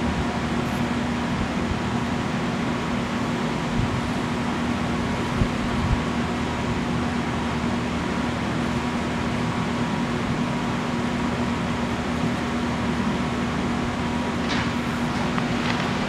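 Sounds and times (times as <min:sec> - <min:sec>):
engine-driven equipment humming: 0:00.0 - 0:16.0.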